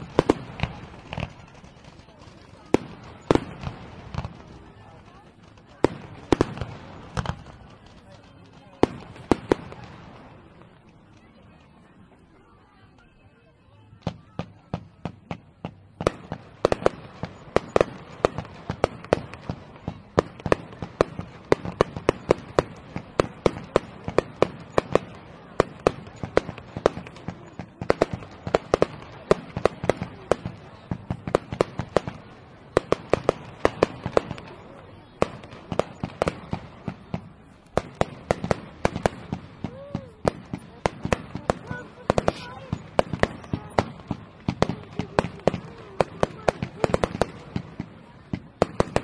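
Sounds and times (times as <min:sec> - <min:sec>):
fireworks bangs and pops: 0:00.0 - 0:12.2, 0:13.9 - 0:49.0.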